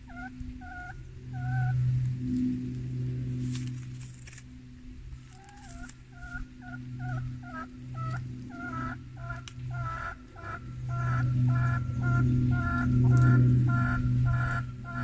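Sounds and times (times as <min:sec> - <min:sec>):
fowl calling: 0:00.0 - 0:03.7, 0:05.2 - 0:15.0
steady low hum: 0:00.0 - 0:15.0.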